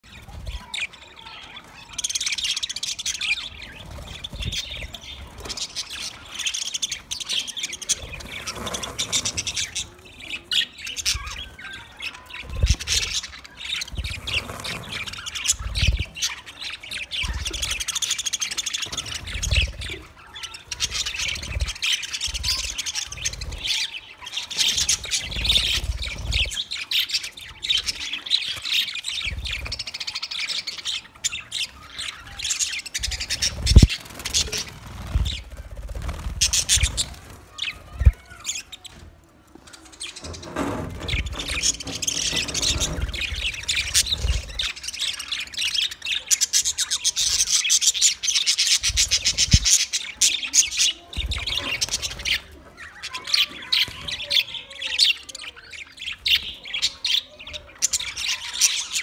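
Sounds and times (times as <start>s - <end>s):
budgerigars chirping and squawking: 0.1s - 59.0s.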